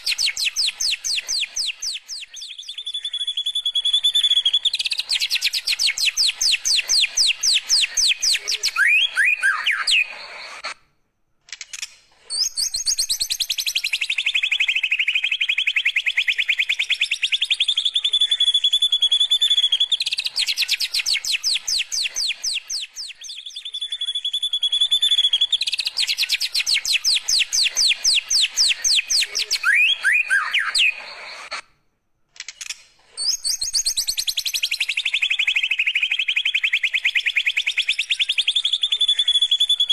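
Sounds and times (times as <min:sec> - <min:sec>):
bird song rapid trills: 0:00.0 - 0:10.7, 0:11.7 - 0:31.6, 0:32.6 - 0:39.9.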